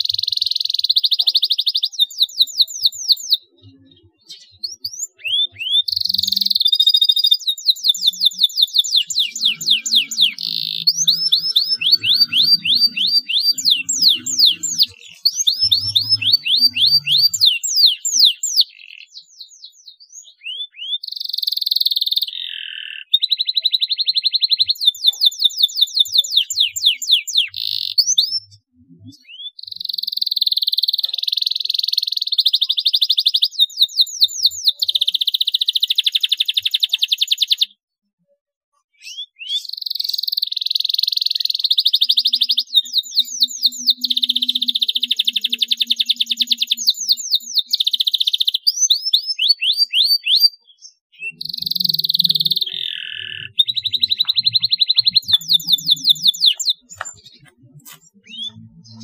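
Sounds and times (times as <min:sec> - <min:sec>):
canary singing: 0:00.0 - 0:37.8, 0:38.8 - 0:59.0.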